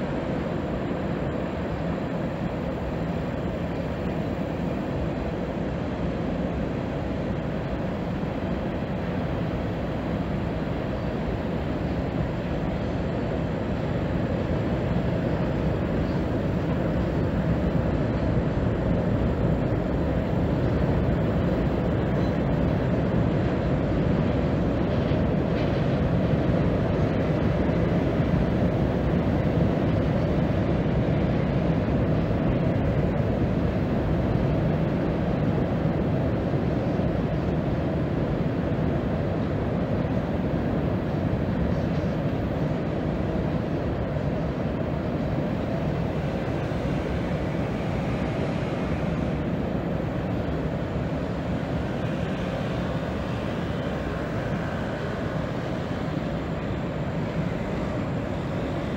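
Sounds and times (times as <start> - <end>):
distant freight train rumbling: 0.0 - 58.9.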